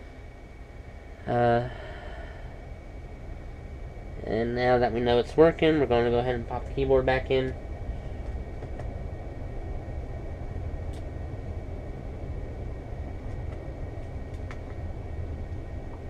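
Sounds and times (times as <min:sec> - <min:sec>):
electric fan whooshing hum: 0:00.0 - 0:16.0
faint high whine: 0:00.0 - 0:16.0.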